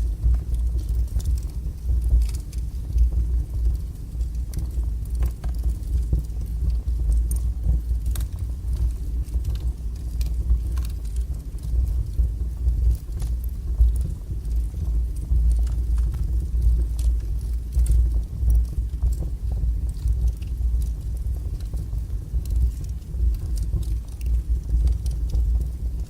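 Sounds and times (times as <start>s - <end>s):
fire crackling and popping: 0.0s - 26.0s
wood fire roaring: 0.0s - 26.0s.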